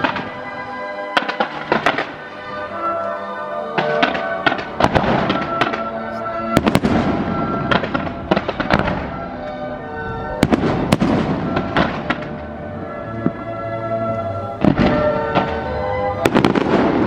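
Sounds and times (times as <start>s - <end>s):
fireworks bangs and crackles: 0.0s - 0.5s, 1.1s - 2.5s, 3.7s - 9.7s, 10.4s - 13.7s, 14.6s - 17.0s
music playing: 0.0s - 17.0s.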